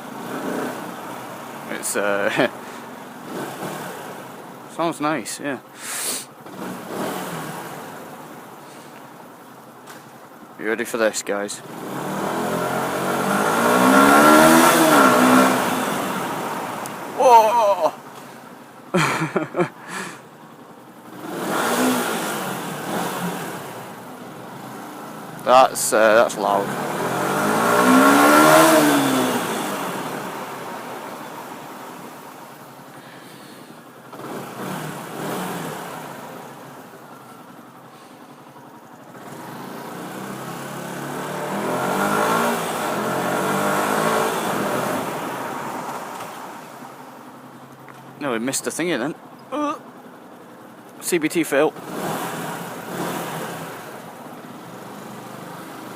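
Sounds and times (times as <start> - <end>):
motorcycle engine revving: 0.0 - 4.7, 5.8 - 10.3, 11.5 - 50.8, 51.5 - 55.9.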